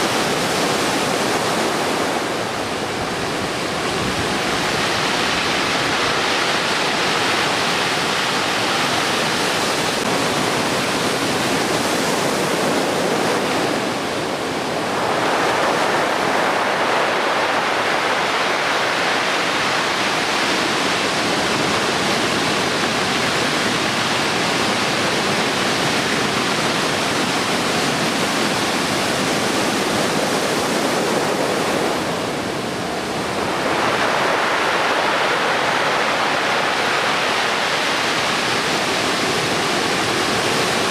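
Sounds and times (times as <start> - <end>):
waves breaking on beach: 0.0 - 40.9.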